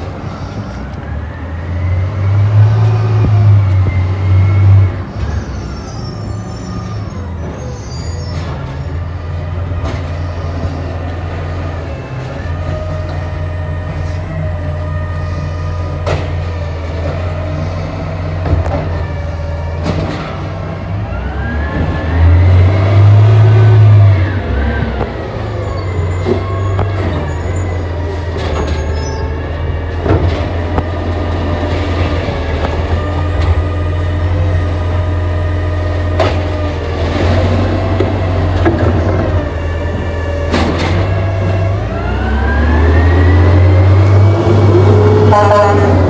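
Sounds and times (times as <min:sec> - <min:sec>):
garbage truck engine: 0:00.0 - 0:46.0.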